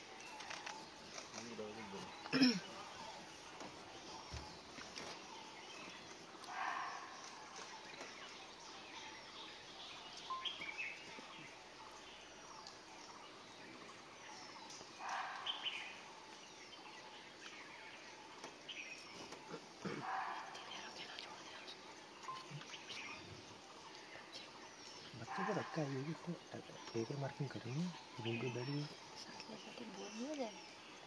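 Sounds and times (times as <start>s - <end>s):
faint bird chirps: 0.0s - 31.0s.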